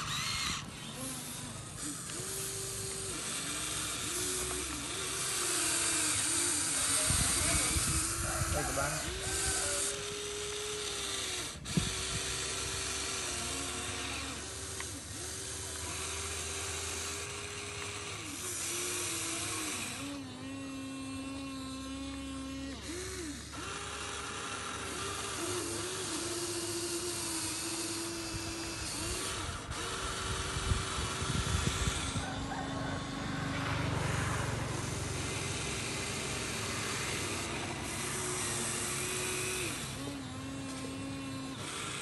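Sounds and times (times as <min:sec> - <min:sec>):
small electric motors whining: 0:00.0 - 0:42.0.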